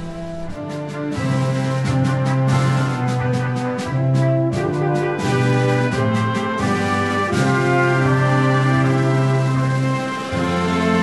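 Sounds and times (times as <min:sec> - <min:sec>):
background music held notes: 0:00.0 - 0:11.0.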